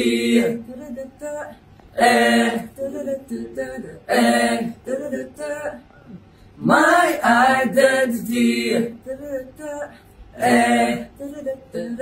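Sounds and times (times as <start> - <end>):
young men singing together: 0.0 - 12.0.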